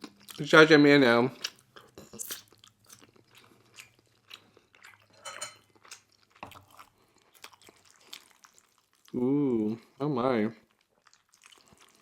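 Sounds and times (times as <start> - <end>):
chewing: 1.3 - 10.0, 10.6 - 12.0.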